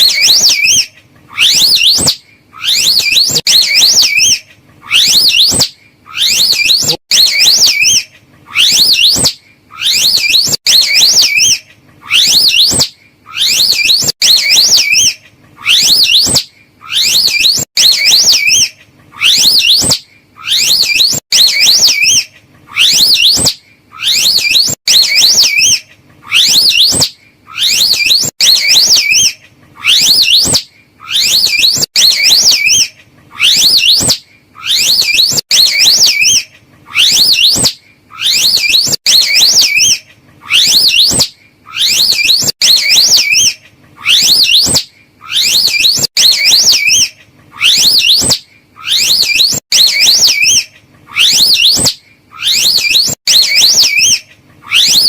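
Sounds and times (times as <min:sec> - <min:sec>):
shrill whistled animal calls: 0:00.0 - 0:55.0.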